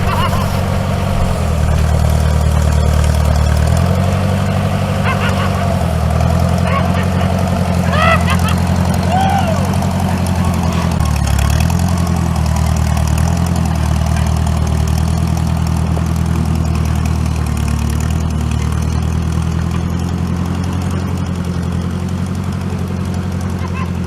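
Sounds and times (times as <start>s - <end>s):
loader engine running: 0.0s - 24.0s.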